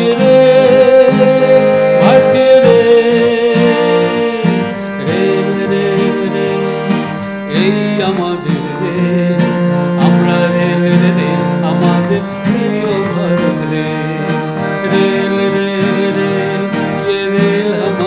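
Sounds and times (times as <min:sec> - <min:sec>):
plucked string song music: 0:00.0 - 0:18.0.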